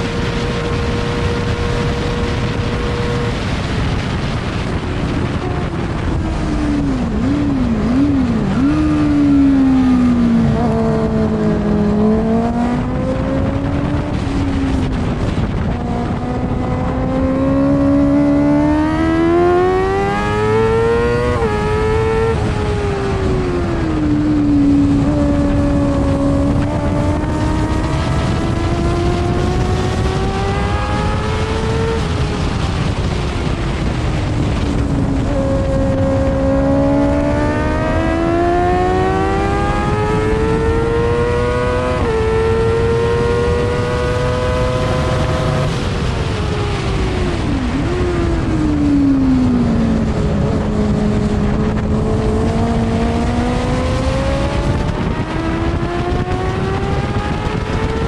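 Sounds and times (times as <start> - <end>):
racing engine revving: 0.0 - 58.0
wind rush: 0.0 - 58.0.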